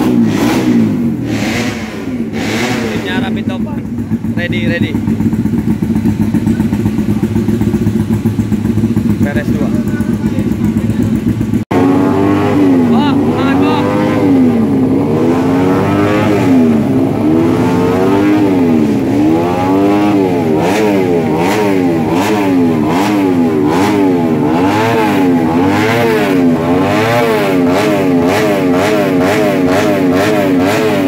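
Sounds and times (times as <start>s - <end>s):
exhaust crackles: 0.0s - 31.0s
motorcycle engine revving: 0.0s - 31.0s.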